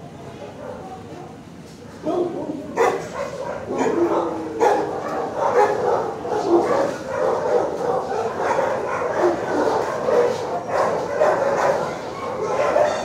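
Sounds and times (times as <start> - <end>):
dogs barking and yipping: 2.0 - 13.0.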